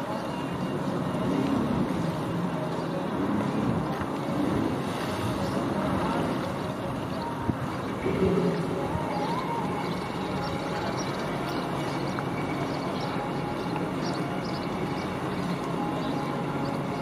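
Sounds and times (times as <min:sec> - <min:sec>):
jet ski engines running: 0:00.0 - 0:17.0
water churning: 0:00.0 - 0:17.0.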